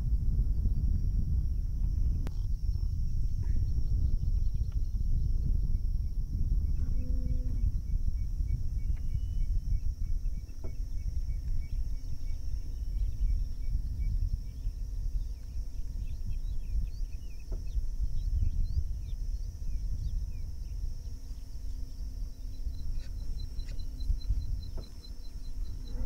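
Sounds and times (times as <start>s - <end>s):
high insect drone: 0.0s - 26.0s
wind rumble on microphone: 0.0s - 26.0s.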